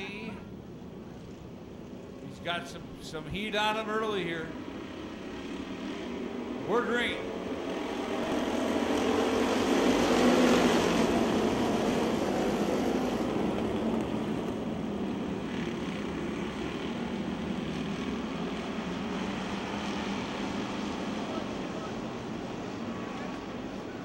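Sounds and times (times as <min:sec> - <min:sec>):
race car engines at full throttle: 0:00.0 - 0:24.0.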